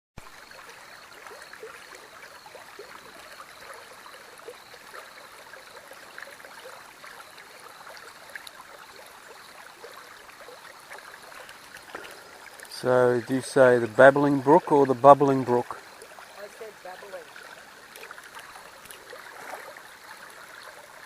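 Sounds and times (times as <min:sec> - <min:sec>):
creek water babbling: 0:00.2 - 0:21.0.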